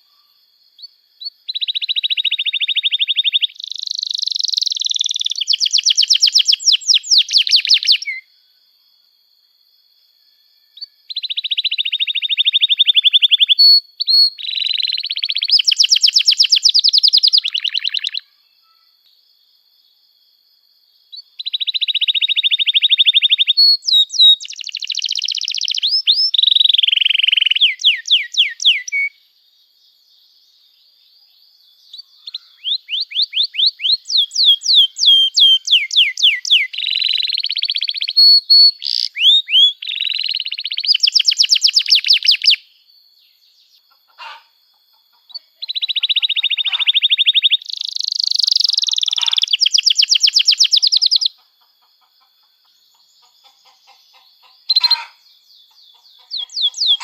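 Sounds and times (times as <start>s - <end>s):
canary singing: 0.8s - 8.3s, 10.8s - 18.9s, 21.1s - 29.2s, 31.8s - 57.0s.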